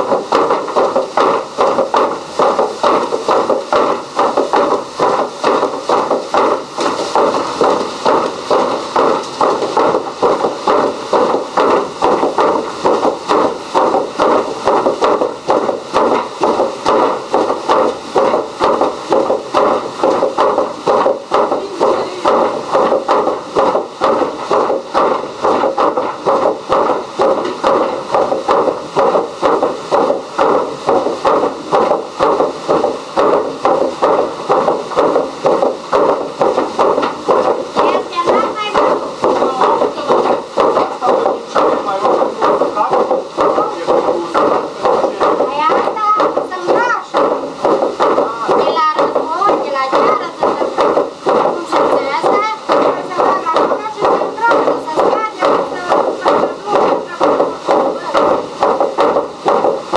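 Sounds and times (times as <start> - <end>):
wooden hammers pounding: 0.0 - 59.9.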